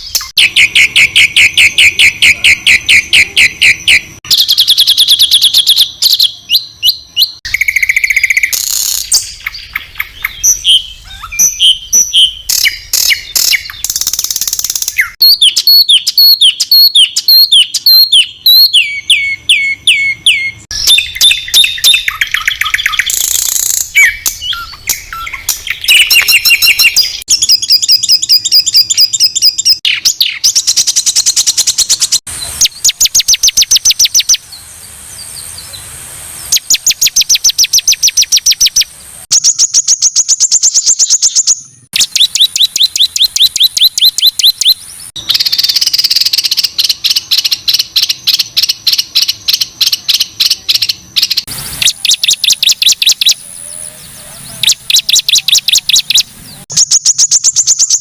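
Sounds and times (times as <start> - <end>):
songbird singing harsh rapid phrases: 0.0 - 58.0.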